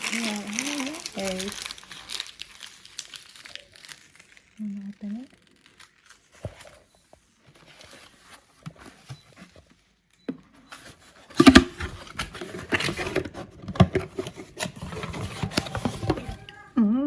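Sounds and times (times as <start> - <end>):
wrapping paper rustling and tearing: 0.0 - 9.1, 11.0 - 13.4, 14.0 - 16.7.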